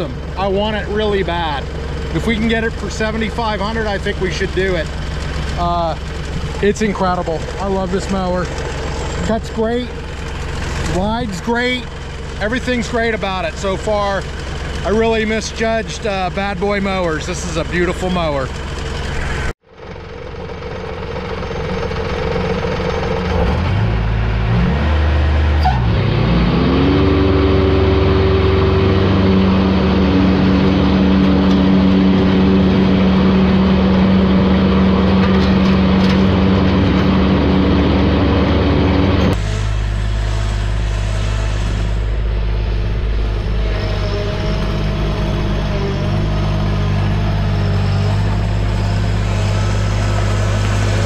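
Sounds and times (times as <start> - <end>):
diesel mower engine revving: 0.0 - 51.0.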